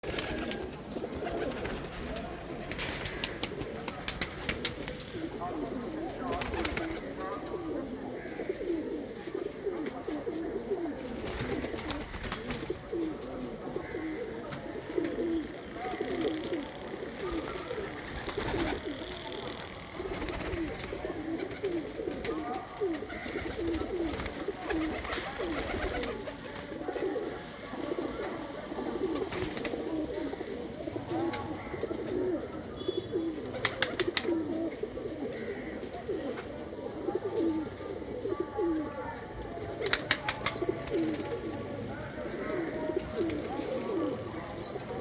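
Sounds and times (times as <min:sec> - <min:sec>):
pigeons cooing: 0:00.0 - 0:45.0.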